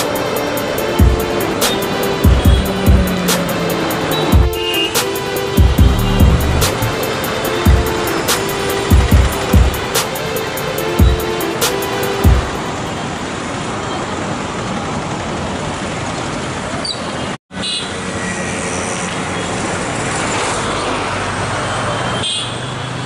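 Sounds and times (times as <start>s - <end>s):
passing vehicles rushing: 0.0s - 16.8s, 17.9s - 23.0s.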